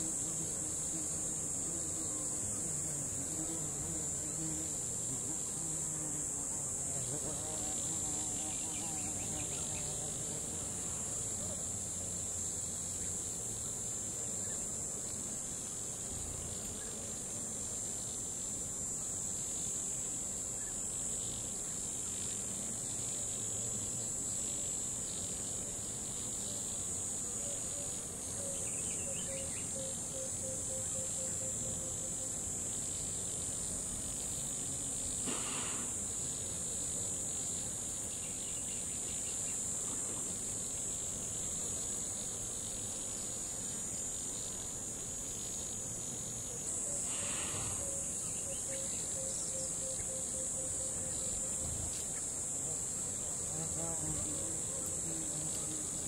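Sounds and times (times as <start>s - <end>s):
insects chirring in grass: 0.0s - 56.0s.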